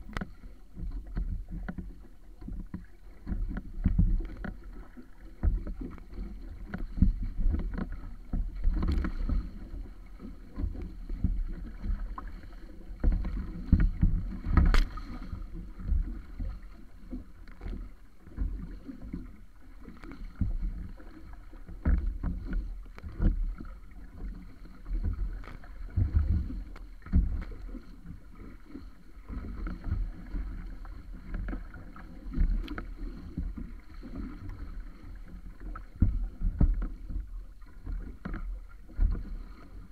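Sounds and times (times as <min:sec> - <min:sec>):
water rushing against hull: 0:00.0 - 0:39.9
waves slapping hull: 0:00.0 - 0:39.9.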